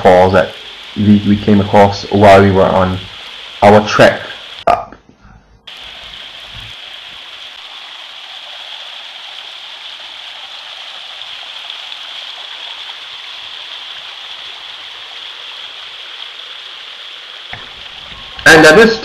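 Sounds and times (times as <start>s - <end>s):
stream water running over rocks: 0.0s - 4.8s, 5.7s - 19.0s.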